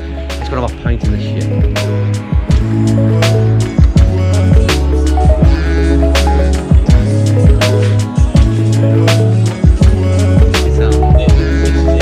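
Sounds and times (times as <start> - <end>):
drum beat with kicks and snare: 0.5 - 5.6, 6.7 - 11.6.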